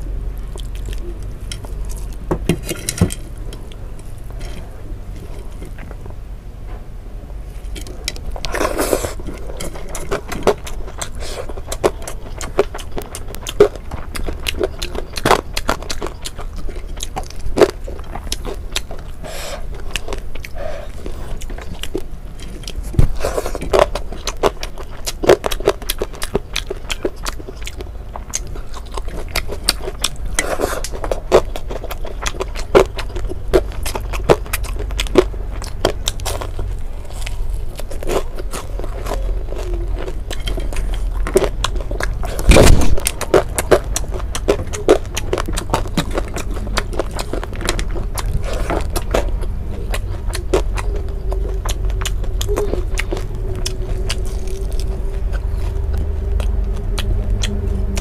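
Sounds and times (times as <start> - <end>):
chewing and lip smacking: 0.0 - 6.1, 7.6 - 58.0
low hum: 0.0 - 58.0
crunchy bite: 7.6 - 58.0.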